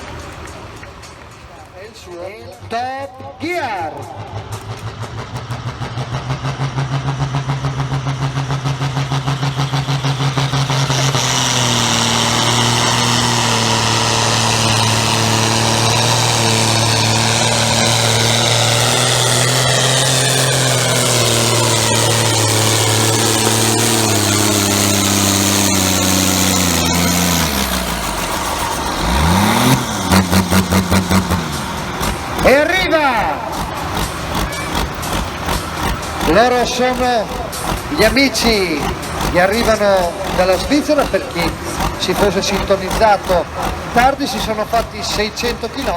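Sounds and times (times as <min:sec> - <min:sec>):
tractor engine running hard: 0:00.0 - 0:45.9.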